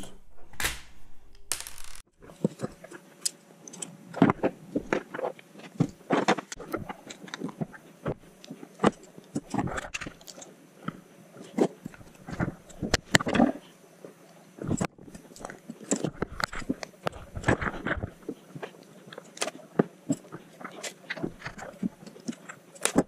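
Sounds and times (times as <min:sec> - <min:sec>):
plastic parts clicking and scraping: 0:01.8 - 0:13.8, 0:14.6 - 0:23.0.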